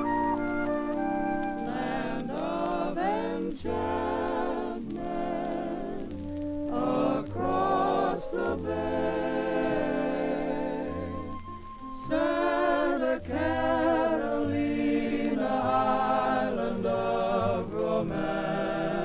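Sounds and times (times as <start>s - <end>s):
sustained music notes: 0.0s - 19.0s
singing voices: 1.6s - 19.0s.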